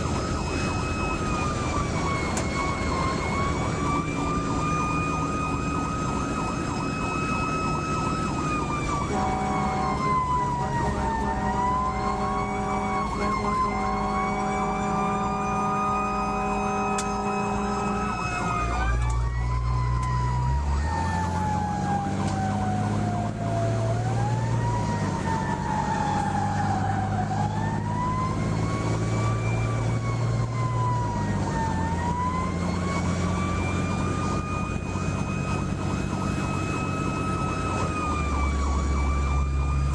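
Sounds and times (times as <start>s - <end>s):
fire truck siren wailing: 0.0s - 39.9s.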